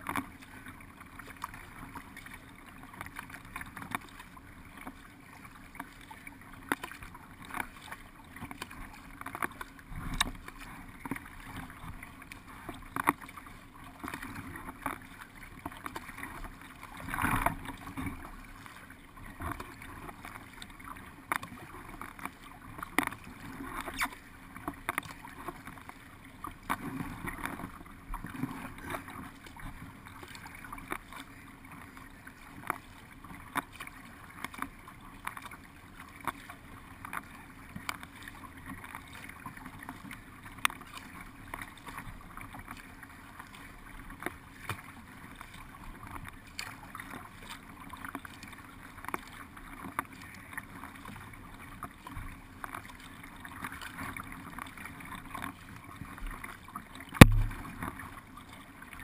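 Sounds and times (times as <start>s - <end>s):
paddle splashes: 0.0s - 59.0s
water washing along boat hull: 0.0s - 59.0s.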